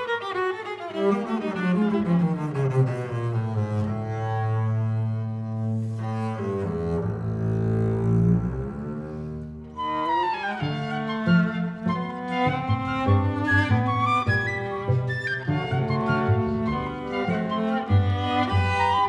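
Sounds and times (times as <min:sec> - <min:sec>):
viola playing: 0:00.0 - 0:19.0
bowed double bass: 0:01.0 - 0:19.0.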